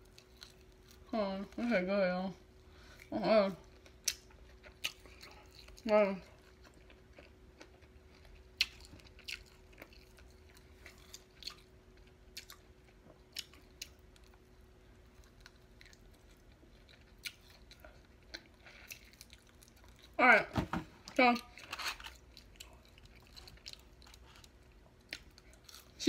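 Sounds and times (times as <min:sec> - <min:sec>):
person chewing: 0:00.0 - 0:01.1, 0:02.9 - 0:20.2, 0:21.4 - 0:26.0.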